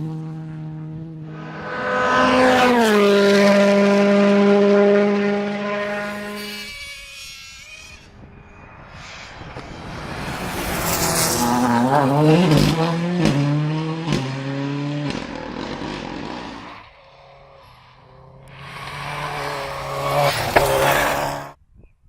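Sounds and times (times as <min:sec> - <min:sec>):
rally car engine passing: 0:00.0 - 0:21.6.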